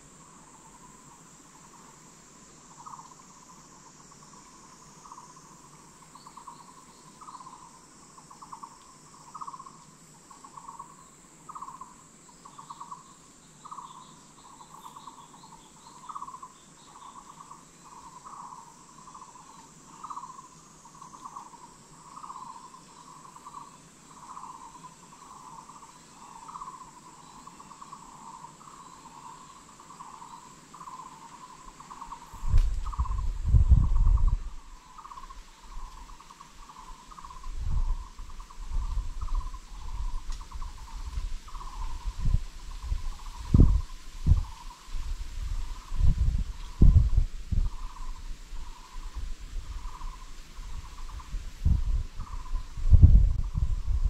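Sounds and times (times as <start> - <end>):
buzzy pulsed insect call: 0.0 - 54.0
high-pitched insect drone: 0.0 - 54.0.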